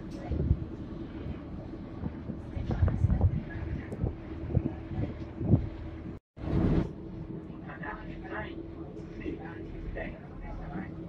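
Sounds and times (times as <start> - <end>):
boat engine droning: 0.0 - 11.0
wind buffeting the microphone: 0.0 - 11.0.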